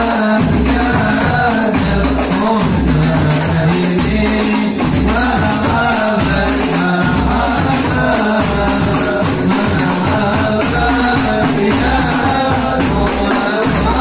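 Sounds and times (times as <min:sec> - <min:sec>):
deep drum beat: 0:00.0 - 0:14.0
hand-beaten frame drums: 0:00.0 - 0:14.0
men singing in unison: 0:00.0 - 0:14.0.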